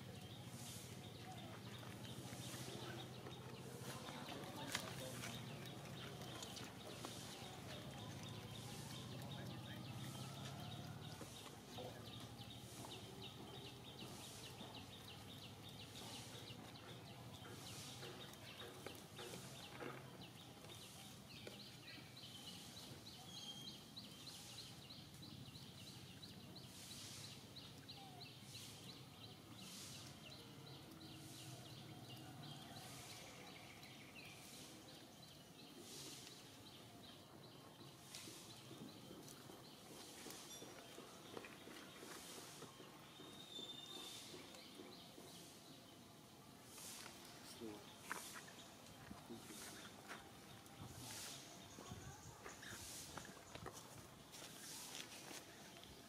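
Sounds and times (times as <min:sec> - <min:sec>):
faint outdoor background noise: 0:00.0 - 0:56.0.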